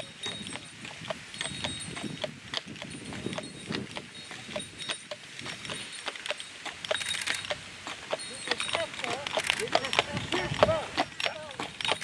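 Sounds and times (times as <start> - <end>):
horse hooves clip-clopping on pavement: 0.0 - 12.0.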